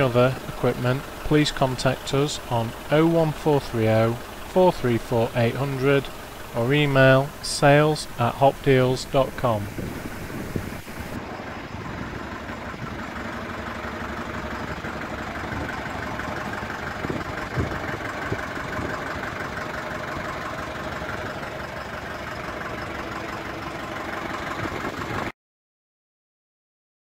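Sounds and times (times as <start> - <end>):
truck diesel engine idling: 0.0 - 25.3.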